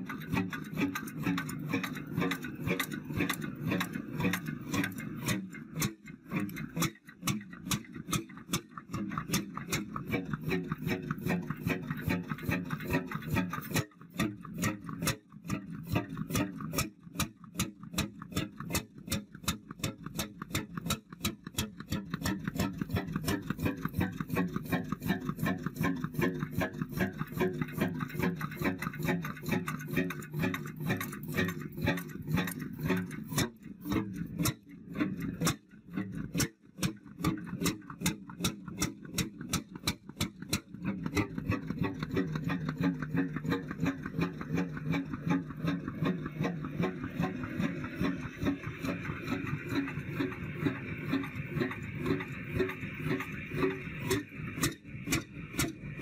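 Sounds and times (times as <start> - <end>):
stationary engine ticking: 0.0 - 56.0.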